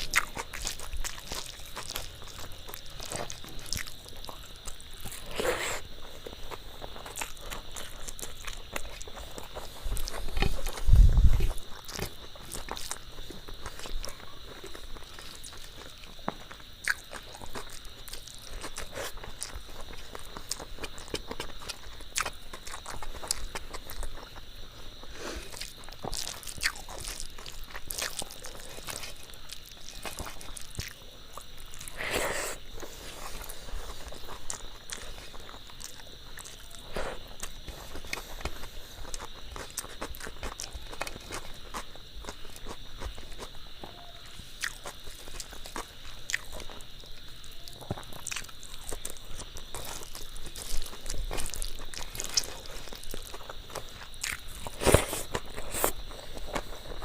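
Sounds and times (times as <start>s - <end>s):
person chewing and crunching: 0.0s - 57.0s.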